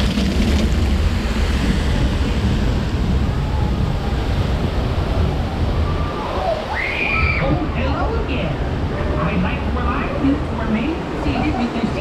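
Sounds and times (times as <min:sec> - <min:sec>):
rushing churning water: 0:00.0 - 0:12.0
wind buffeting microphone: 0:00.0 - 0:12.0.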